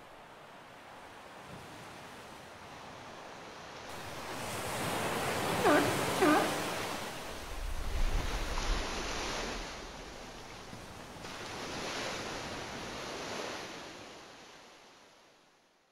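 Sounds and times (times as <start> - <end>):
sea water surging and splashing: 0.0 - 15.7.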